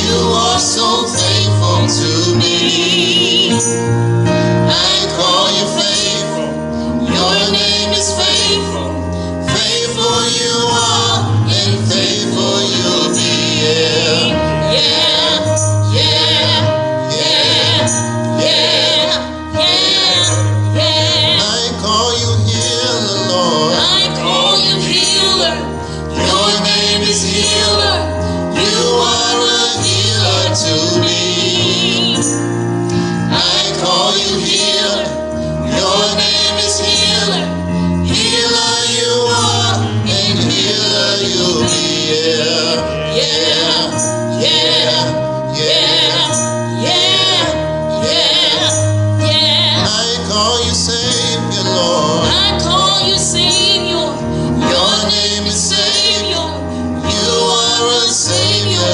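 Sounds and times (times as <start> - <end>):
gospel choir singing: 0.0 - 58.9
instrumental accompaniment low notes: 0.0 - 58.9.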